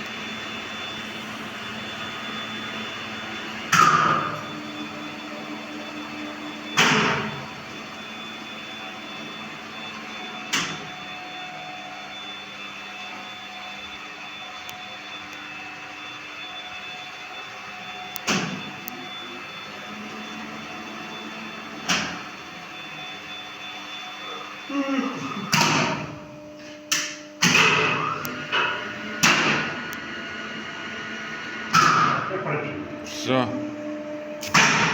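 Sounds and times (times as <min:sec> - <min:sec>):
machine whirring with faint hum: 0:00.0 - 0:34.9.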